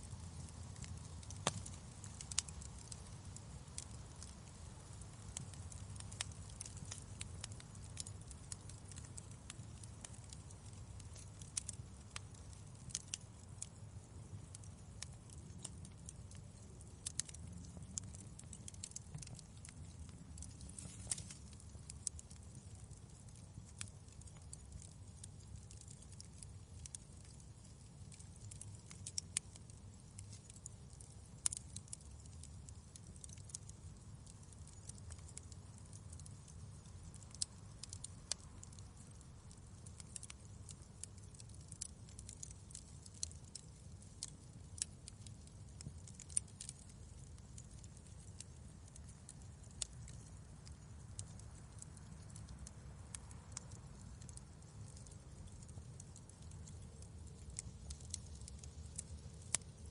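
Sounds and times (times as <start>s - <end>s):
sharp pops of fire: 0.0s - 59.9s
wood fire crackling: 0.0s - 59.9s.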